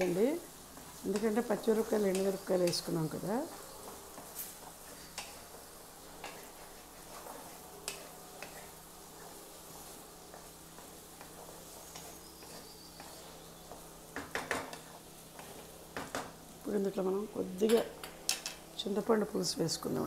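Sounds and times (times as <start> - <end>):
spatula scraping and tapping pan: 0.0 - 16.4
faint sizzle in oil: 0.0 - 20.0.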